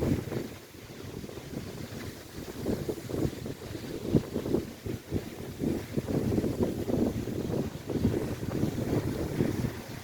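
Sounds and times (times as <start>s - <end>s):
waves breaking on shore: 0.0s - 10.0s
wind buffeting microphone: 0.0s - 10.0s.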